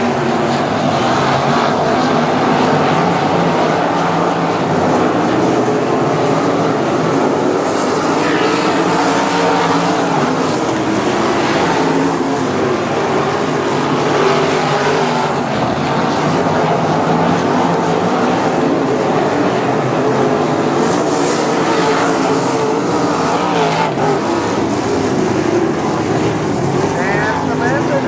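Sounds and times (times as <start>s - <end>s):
race car engines roaring: 0.0s - 28.0s.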